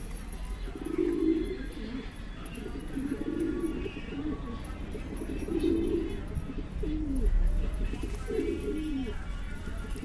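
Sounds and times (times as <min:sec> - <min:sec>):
pigeons cooing: 0:00.6 - 0:09.3.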